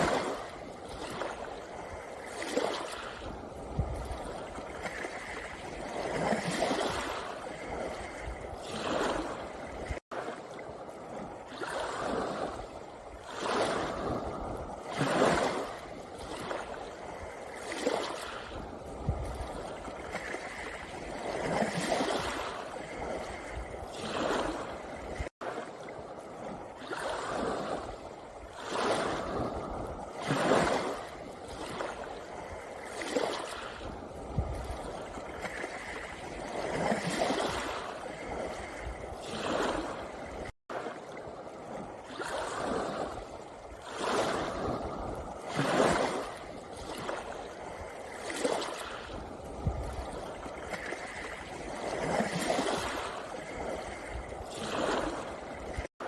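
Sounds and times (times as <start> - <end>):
waves washing over pebble shore: 0.0 - 10.4, 11.2 - 41.0, 41.6 - 56.0.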